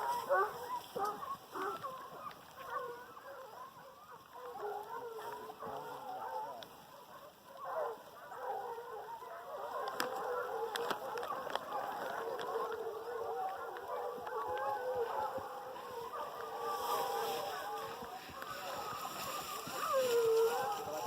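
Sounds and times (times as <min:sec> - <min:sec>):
hounds baying: 0:00.0 - 0:21.0.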